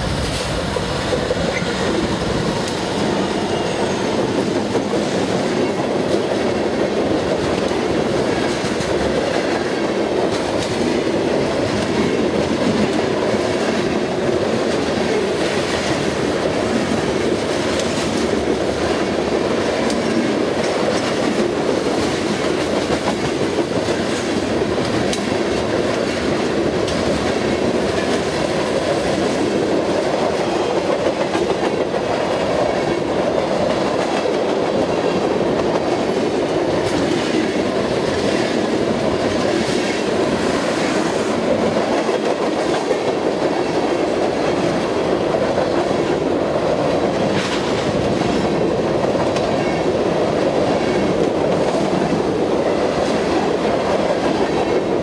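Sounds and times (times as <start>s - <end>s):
freight train rolling past: 0.0s - 55.0s
wheels clicking over rail joints: 1.1s - 49.8s.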